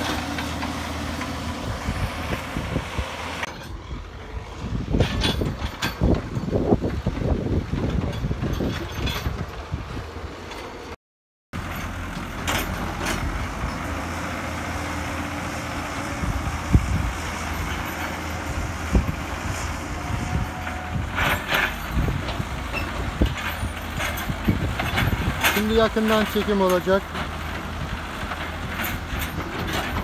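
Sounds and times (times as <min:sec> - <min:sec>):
backhoe diesel engine running: 0:00.0 - 0:11.0, 0:11.6 - 0:30.0.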